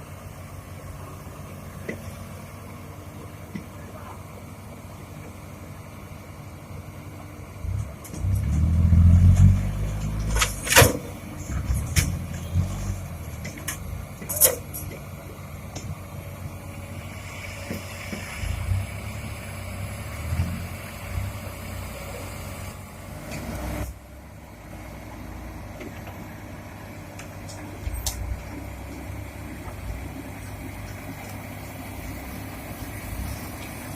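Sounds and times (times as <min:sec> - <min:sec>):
diesel engine rumble: 0:00.0 - 0:33.9.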